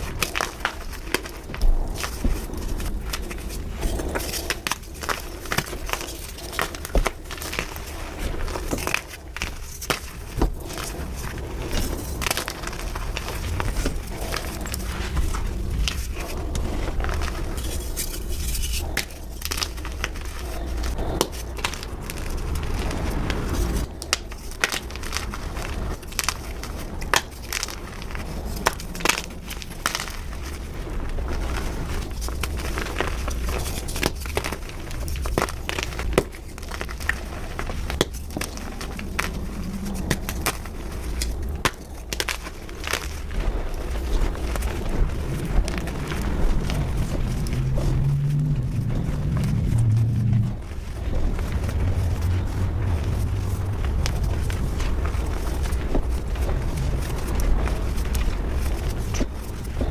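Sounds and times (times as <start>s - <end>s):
low rumble: 0.0s - 27.1s, 27.7s - 59.9s
chalk crunching and crackling: 0.0s - 59.9s.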